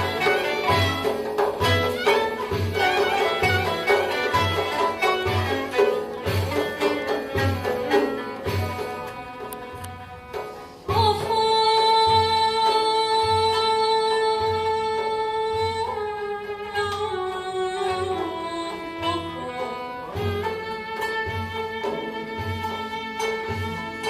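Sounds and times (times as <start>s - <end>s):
classical ensemble melody: 0.0s - 10.9s, 15.6s - 24.0s.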